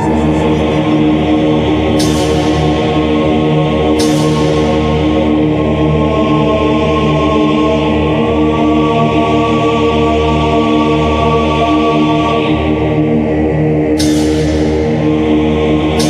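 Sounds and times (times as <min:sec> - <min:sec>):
choir chanting sustained notes: 0:00.0 - 0:16.0.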